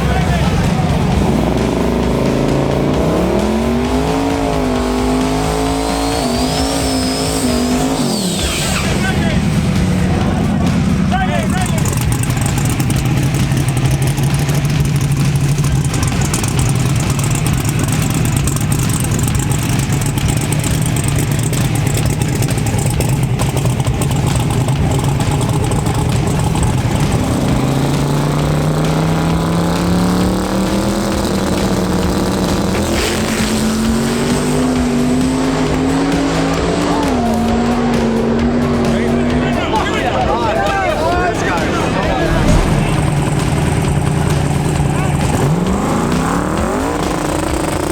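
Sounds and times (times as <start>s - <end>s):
drag racing car engine revving: 0.0s - 47.9s.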